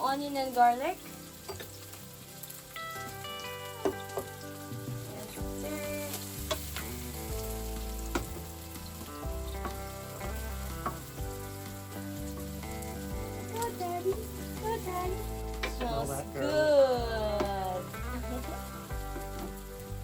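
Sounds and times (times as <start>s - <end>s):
background music: 0.0s - 20.0s
onion and garlic sizzling in oil: 0.0s - 20.0s.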